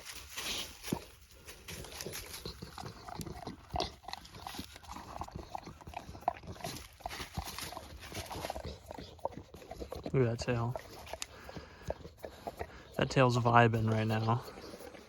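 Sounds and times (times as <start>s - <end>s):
dog licking and lapping: 1.7s - 15.0s.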